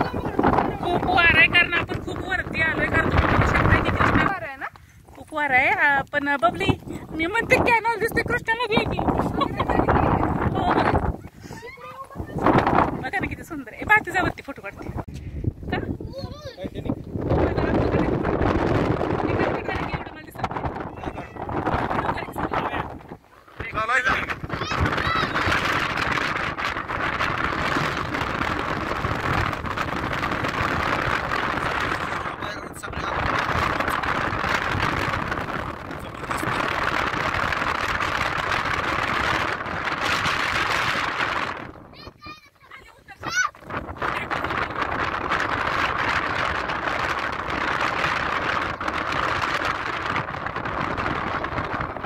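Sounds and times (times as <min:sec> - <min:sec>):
strong wind on microphone: 0:00.0 - 0:52.0.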